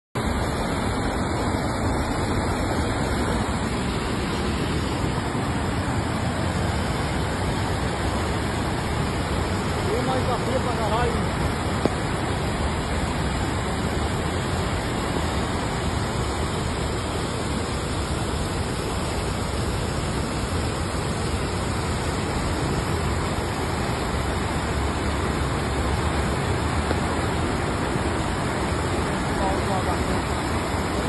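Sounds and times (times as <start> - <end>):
river rushing: 0.2 - 31.0.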